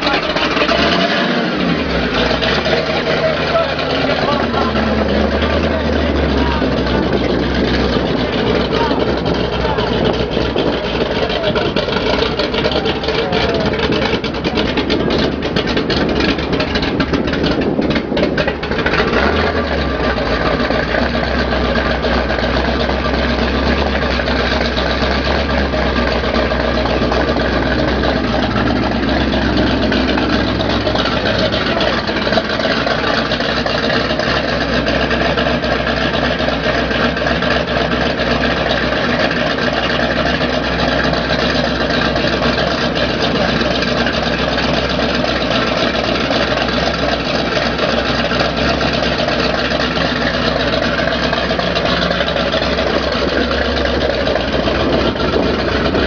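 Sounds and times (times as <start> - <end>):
engine idling loudly: 0.0 - 56.0.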